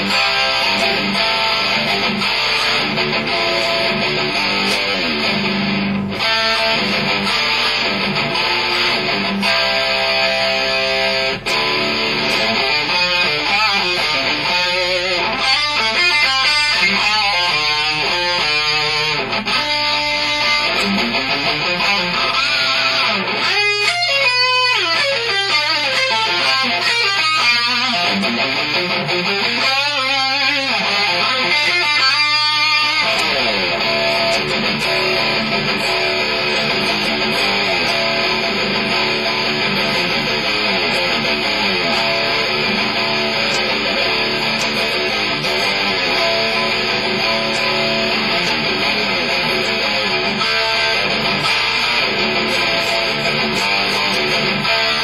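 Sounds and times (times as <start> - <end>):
electric guitar lead notes: 0.0 - 55.0.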